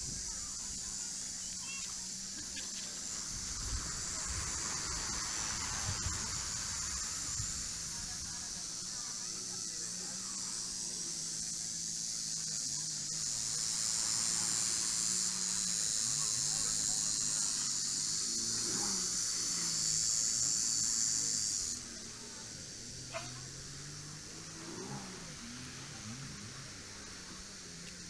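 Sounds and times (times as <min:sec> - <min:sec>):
cicadas buzzing: 0:00.0 - 0:28.0.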